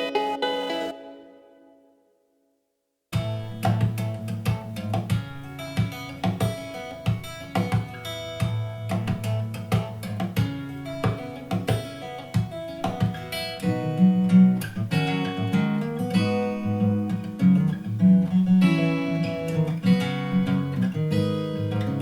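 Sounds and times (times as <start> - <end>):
acoustic guitar music from speaker: 0.0 - 2.1, 3.1 - 22.0.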